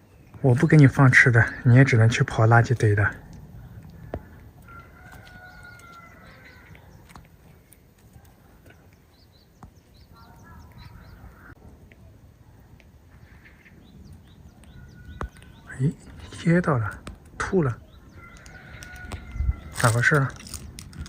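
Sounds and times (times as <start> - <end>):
small birds chirping: 0.0 - 21.0
faint bird calls: 3.1 - 20.2.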